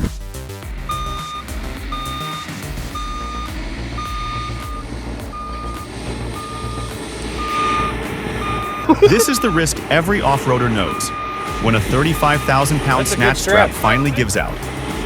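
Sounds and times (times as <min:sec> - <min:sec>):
diesel engine rumble: 0:00.0 - 0:15.0
reversing alarm beeping: 0:00.8 - 0:14.6.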